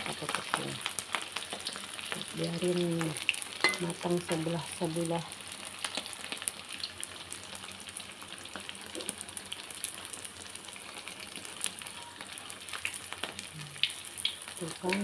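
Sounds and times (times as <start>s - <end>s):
rice cake deep-frying in oil: 0.0s - 15.0s.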